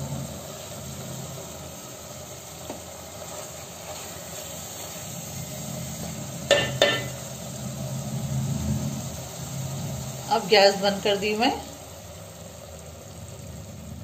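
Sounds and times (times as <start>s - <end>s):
curry sizzling in oil: 0.0s - 14.0s.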